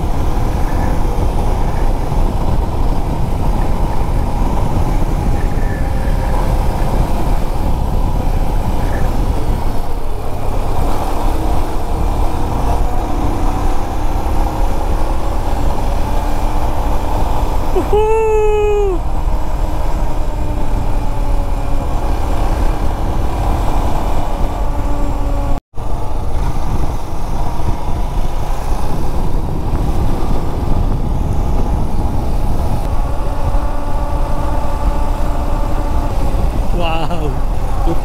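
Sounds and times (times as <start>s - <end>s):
motorcycle engine: 0.0s - 38.0s
wind rumble on microphone: 0.0s - 38.0s.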